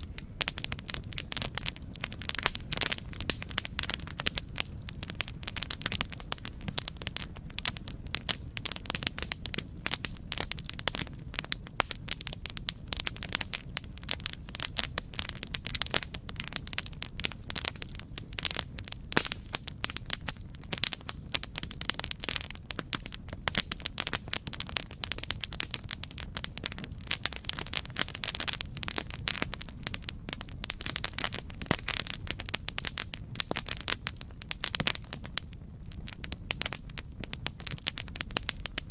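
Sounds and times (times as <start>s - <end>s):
campfire pops and snaps: 0.0s - 38.9s
low rumble of burning: 0.0s - 38.9s.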